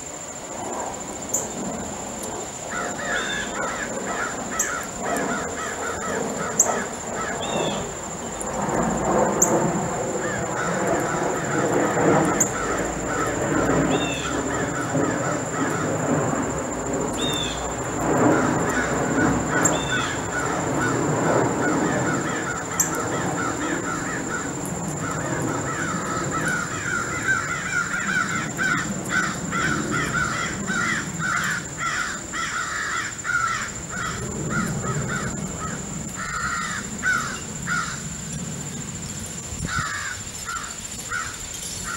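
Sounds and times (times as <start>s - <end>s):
high-pitched whine: 0.0s - 40.0s
crows cawing: 2.7s - 7.9s, 10.1s - 16.4s, 17.2s - 38.2s, 39.6s - 41.9s.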